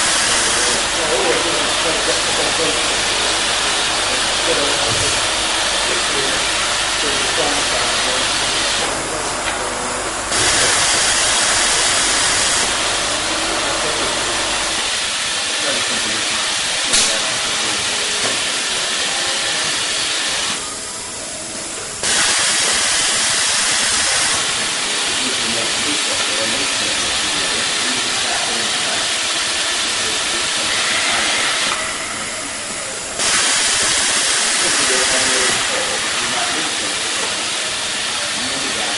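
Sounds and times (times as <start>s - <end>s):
compressed air hissing: 0.0s - 38.9s.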